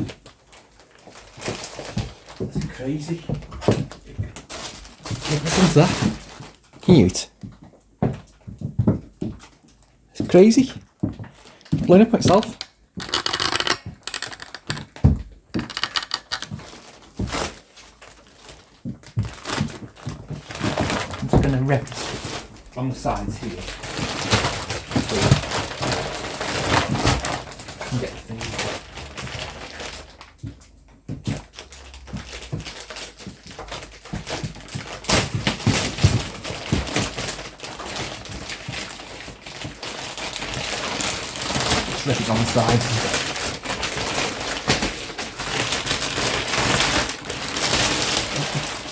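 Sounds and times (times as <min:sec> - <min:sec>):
plastic packaging crinkling: 0:00.0 - 0:07.2, 0:10.4 - 0:30.4, 0:31.3 - 0:48.9.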